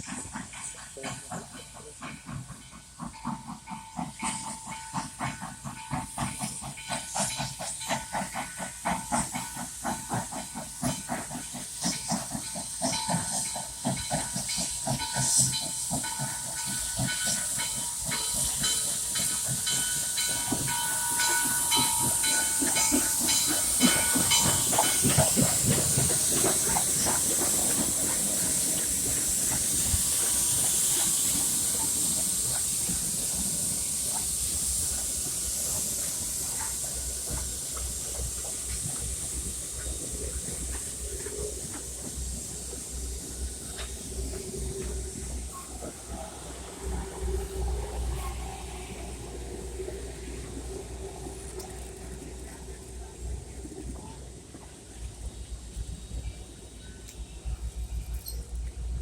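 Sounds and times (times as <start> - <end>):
loud hiss of steam: 0.0 - 59.0
steam locomotive exhaust chuffing: 0.0 - 59.0.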